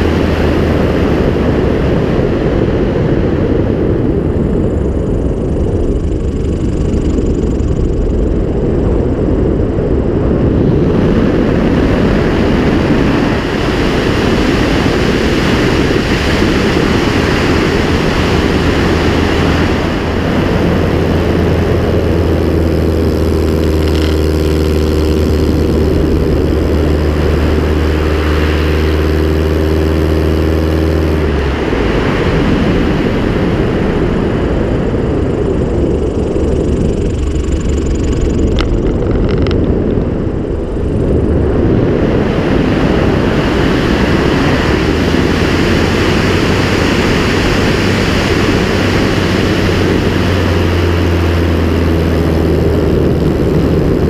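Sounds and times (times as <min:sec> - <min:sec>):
light aircraft engine and propeller: 0:00.0 - 0:54.0
wind rushing over microphone: 0:00.0 - 0:54.0.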